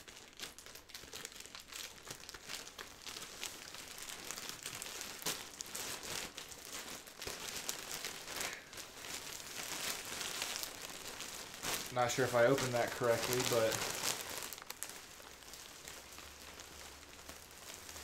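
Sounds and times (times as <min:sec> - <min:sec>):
plastic bag crinkling and tearing: 0:00.0 - 0:18.0.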